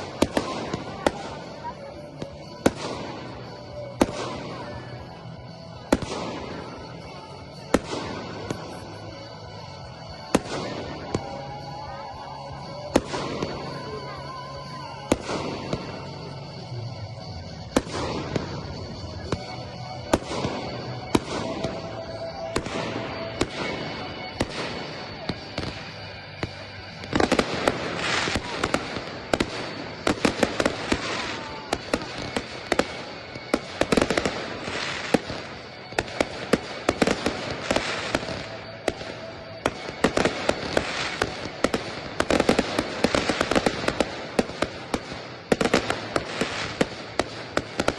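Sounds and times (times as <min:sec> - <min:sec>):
fireworks bursting with bangs: 0:00.0 - 0:47.9
fireworks crackling: 0:00.0 - 0:47.9.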